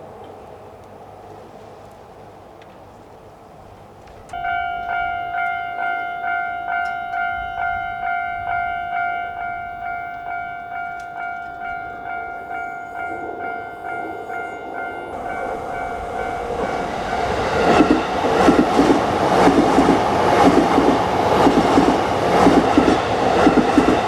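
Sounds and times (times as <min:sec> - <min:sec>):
level-crossing warning bell: 0:04.3 - 0:24.0.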